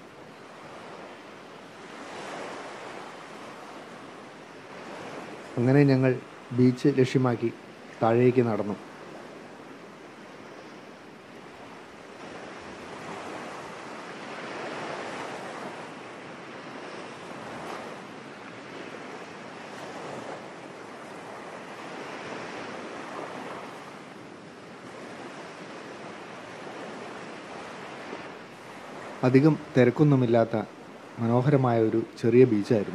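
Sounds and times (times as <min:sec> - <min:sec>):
surf breaking on a beach: 0:00.0 - 0:32.9.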